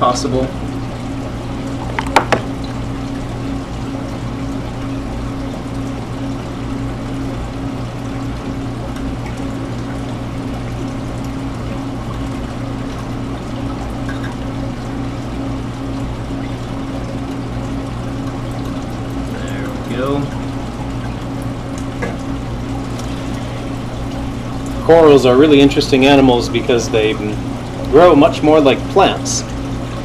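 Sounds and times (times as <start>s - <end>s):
pump hum: 0.0s - 30.0s
water rushing and trickling: 0.1s - 30.0s.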